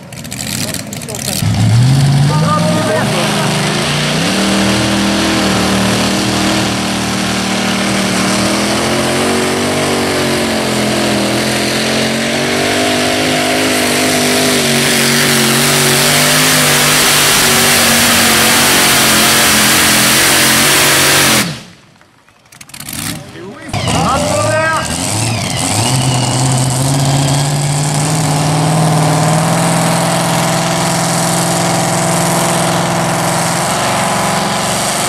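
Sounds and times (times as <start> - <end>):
tractor engine at high revs: 0.0 - 35.0.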